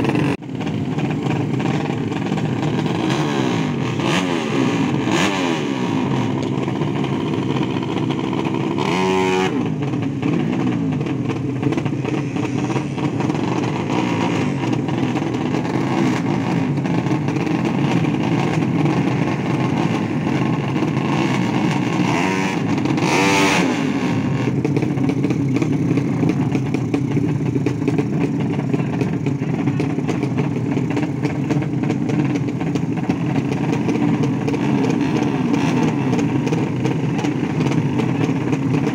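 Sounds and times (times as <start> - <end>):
racing motorcycle engines: 0.0 - 38.9.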